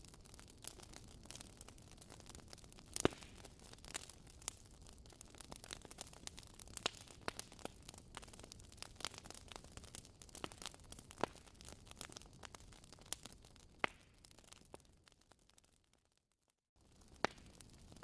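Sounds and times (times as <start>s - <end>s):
wood fire crackling: 0.0s - 16.2s, 16.8s - 18.0s.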